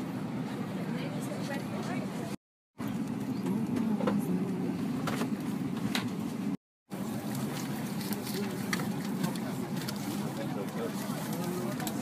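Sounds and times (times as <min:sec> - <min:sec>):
faint passenger chatter: 0:00.0 - 0:05.5, 0:07.0 - 0:12.0.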